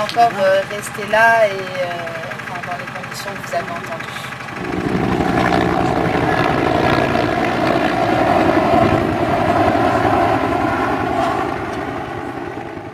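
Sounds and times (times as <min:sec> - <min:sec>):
aircraft engine drone: 0:01.6 - 0:12.9.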